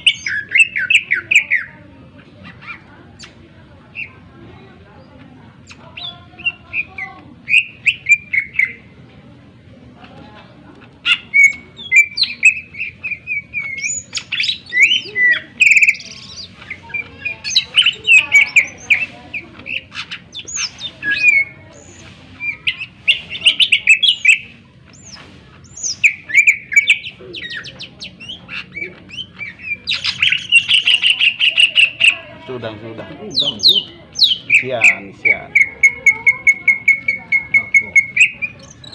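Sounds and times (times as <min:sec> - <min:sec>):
bird chirping and trilling: 0:00.0 - 0:09.1, 0:11.0 - 0:38.9.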